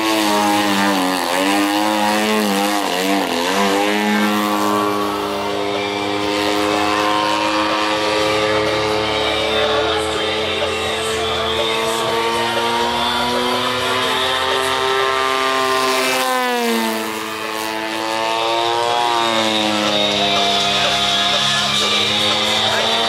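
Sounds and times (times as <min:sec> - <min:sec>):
model airplane engine buzzing: 0:00.0 - 0:23.0.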